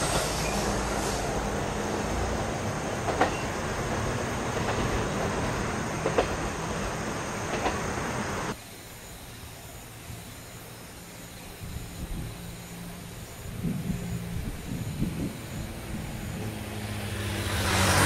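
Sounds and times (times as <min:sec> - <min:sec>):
diesel railcar engine rumble: 0:00.0 - 0:08.6, 0:11.4 - 0:18.0.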